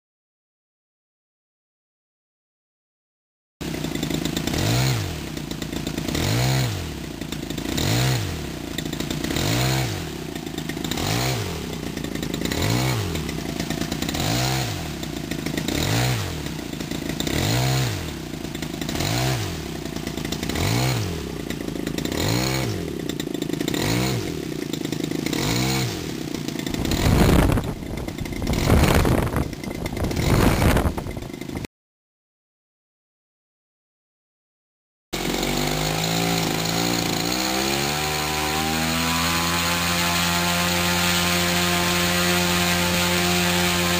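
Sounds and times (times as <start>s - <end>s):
small engine revving in cycles: 3.6s - 31.7s, 35.2s - 43.9s.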